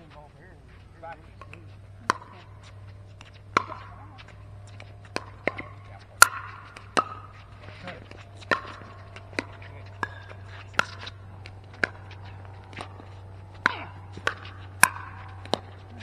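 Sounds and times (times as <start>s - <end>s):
ball bouncing on court: 0.0s - 16.0s
steady low hum: 0.0s - 16.0s.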